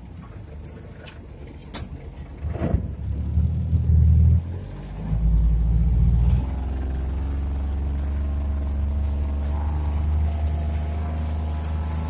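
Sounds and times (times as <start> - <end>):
tractor engine drone from cab: 0.0 - 12.0.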